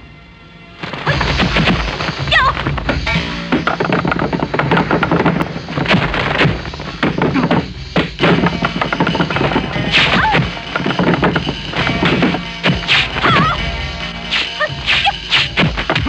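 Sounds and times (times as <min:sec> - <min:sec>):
background music: 0:00.0 - 0:16.0
punch and kick hits: 0:00.9 - 0:13.5, 0:14.3 - 0:16.0.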